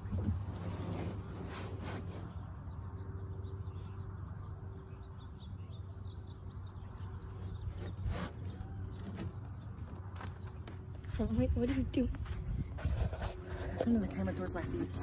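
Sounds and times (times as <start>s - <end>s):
faint birds chirping: 0.0s - 15.0s
low steady outdoor rumble: 0.0s - 15.0s.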